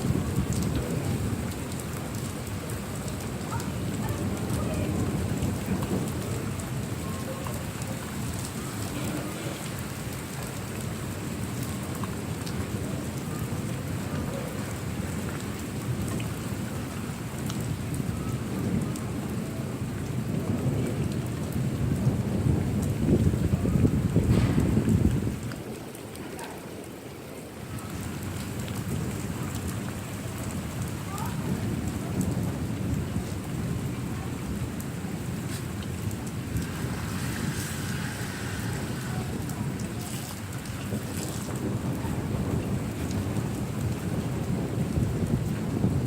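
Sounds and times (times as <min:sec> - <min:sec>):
rolling thunder rumble: 0:00.0 - 0:46.0
steady rain: 0:00.0 - 0:46.0.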